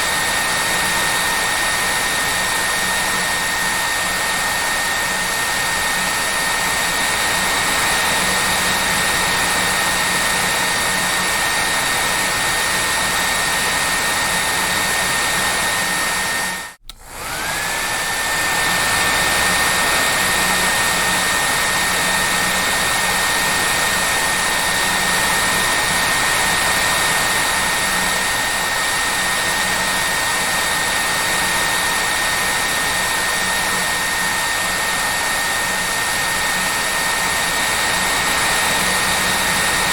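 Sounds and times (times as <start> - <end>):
hair dryer whining: 0.0 - 39.9.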